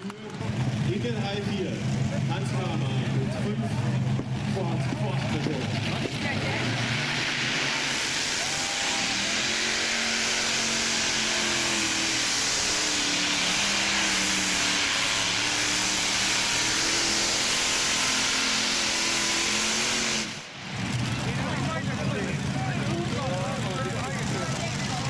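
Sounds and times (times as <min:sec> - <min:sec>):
pulling tractor engine at full throttle: 0:00.0 - 0:25.0.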